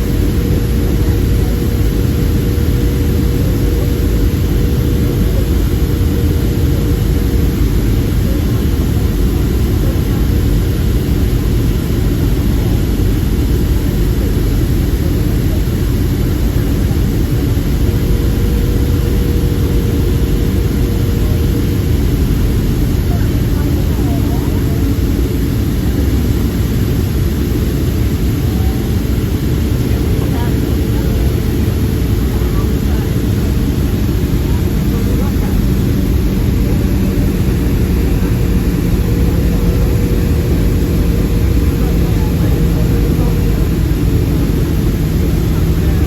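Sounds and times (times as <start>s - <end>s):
airplane engine roar in flight: 0.0s - 46.0s
faint steady hum: 0.0s - 46.0s.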